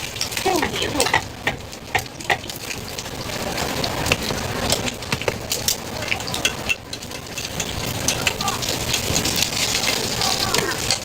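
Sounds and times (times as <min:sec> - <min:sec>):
food sizzling and popping: 0:00.0 - 0:11.0.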